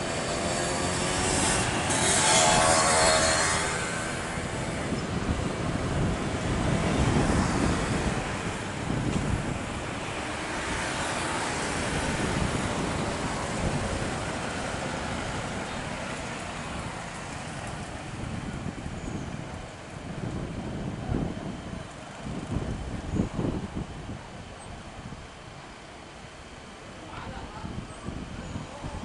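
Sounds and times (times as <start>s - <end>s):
distant jet engines at takeoff: 0.0s - 29.0s.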